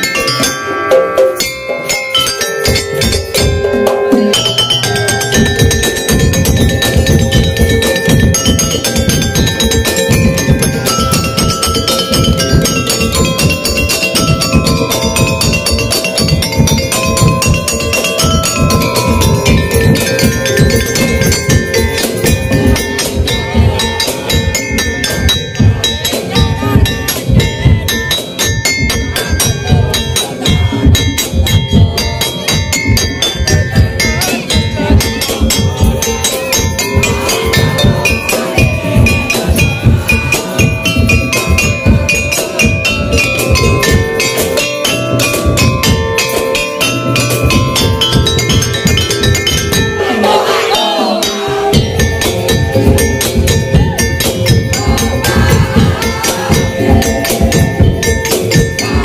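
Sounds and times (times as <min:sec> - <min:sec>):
gong-chime metallophone melody: 0:00.0 - 0:59.0
wooden slit drums beating: 0:00.0 - 0:59.0.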